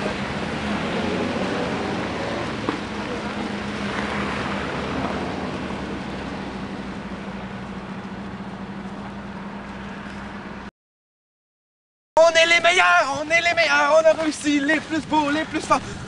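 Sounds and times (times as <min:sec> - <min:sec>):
cars at intersection: 0:00.0 - 0:10.7, 0:12.2 - 0:16.0.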